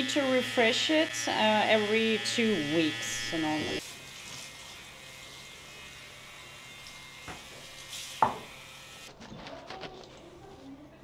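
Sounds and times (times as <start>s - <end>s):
electric hair clipper buzzing: 0.0s - 9.1s.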